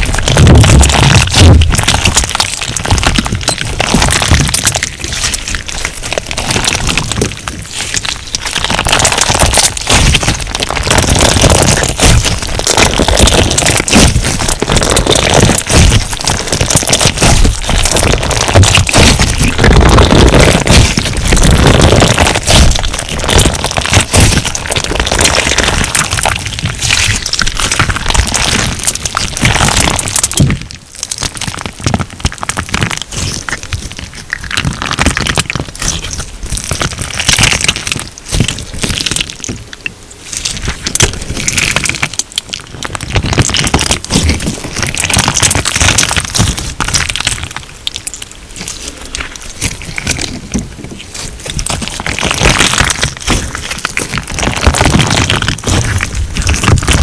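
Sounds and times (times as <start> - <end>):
crunch slime crackling and popping: 0.0 - 57.0.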